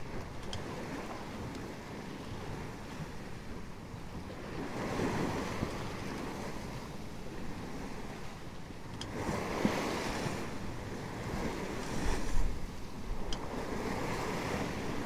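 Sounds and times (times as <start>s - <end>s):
hull rushing through sea: 0.0s - 15.0s
wind buffeting microphone: 0.0s - 15.0s.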